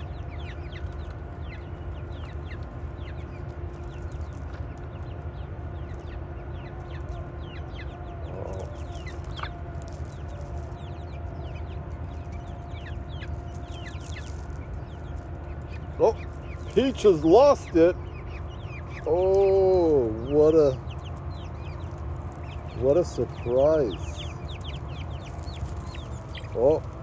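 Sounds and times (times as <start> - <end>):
chickens clucking: 0.0 - 27.0
high chirps: 0.0 - 27.0
low hum: 0.0 - 27.0.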